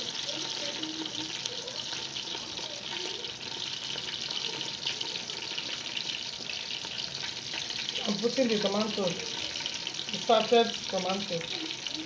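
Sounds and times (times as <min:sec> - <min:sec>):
oil sizzling in a pot: 0:00.0 - 0:12.0.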